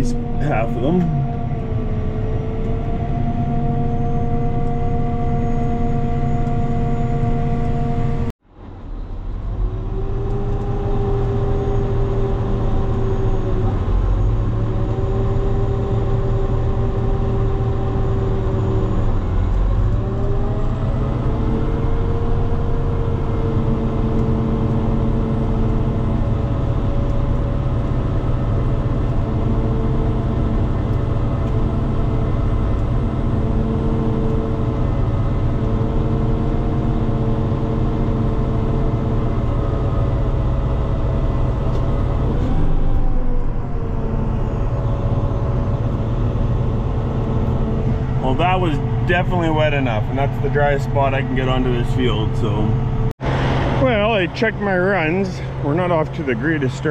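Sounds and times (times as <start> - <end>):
tractor engine droning: 0.0 - 56.9.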